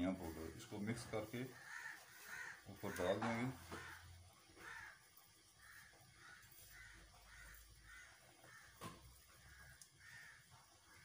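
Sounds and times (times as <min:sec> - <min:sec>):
faint bird calls: 0:01.2 - 0:11.0.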